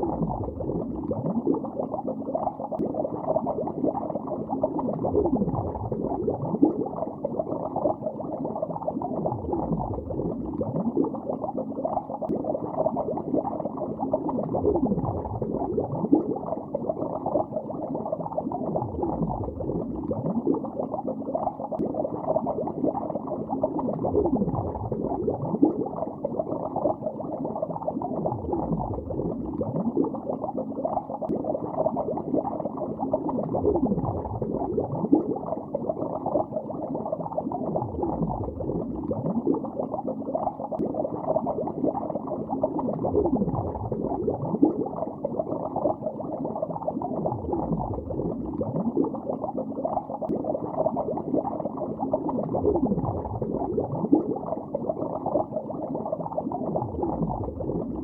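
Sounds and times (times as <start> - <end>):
underwater gurgling bubbles: 0.0 - 58.0.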